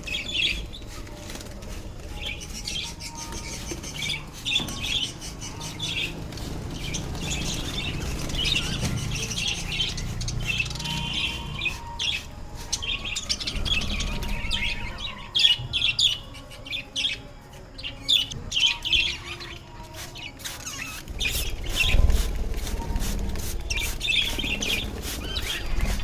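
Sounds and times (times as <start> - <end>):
budgerigars chirping and chattering: 0.0 - 26.0.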